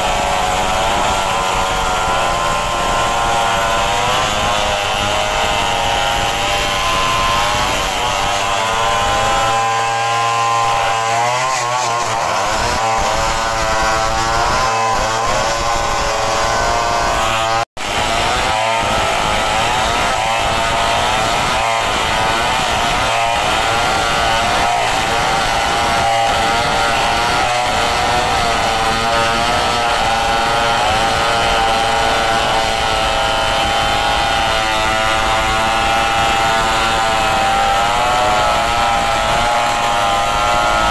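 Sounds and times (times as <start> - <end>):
chainsaws ripping timber: 0.0 - 40.9.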